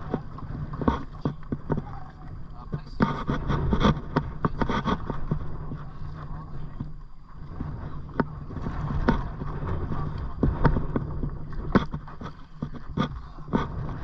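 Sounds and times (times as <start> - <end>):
paddle strokes in water: 0.0 - 14.0
wind rumble on microphone: 0.0 - 14.0.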